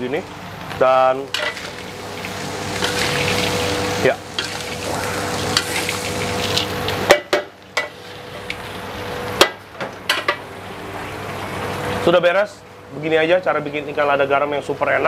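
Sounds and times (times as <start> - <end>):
frying hiss: 0.0 - 14.0.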